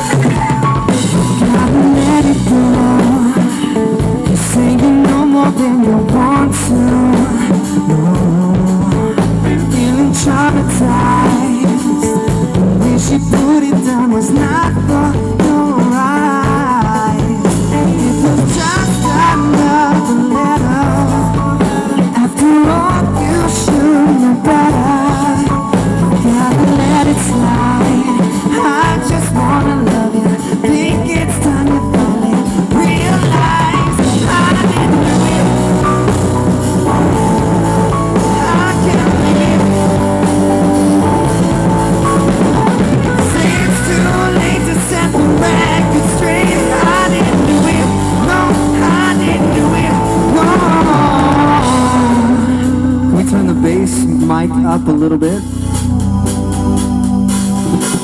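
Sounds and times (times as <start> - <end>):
bass guitar: 0.0 - 58.0
drum kit: 0.0 - 58.0
electric guitar: 0.0 - 58.0
person singing: 0.0 - 58.0.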